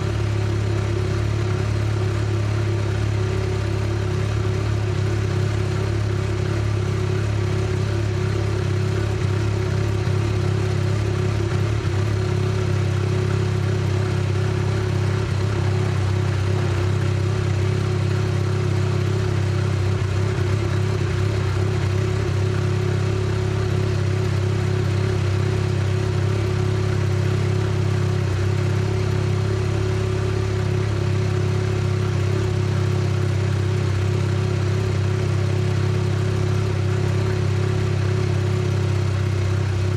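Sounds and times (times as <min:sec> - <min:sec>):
rotary engine idling: 0:00.0 - 0:39.9.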